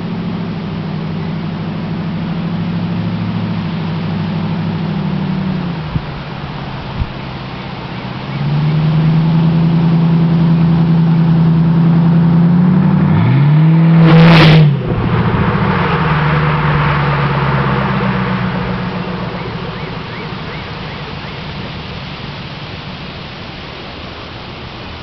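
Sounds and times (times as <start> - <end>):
loud car exhaust drone: 0.0 - 25.0.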